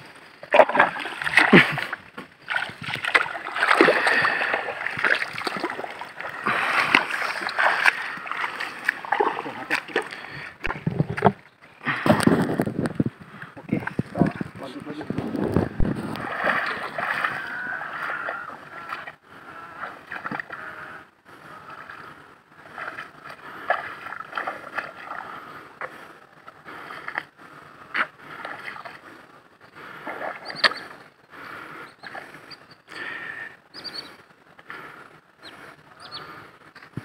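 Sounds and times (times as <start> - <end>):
person wading through water: 0.1 - 12.6, 13.5 - 37.0.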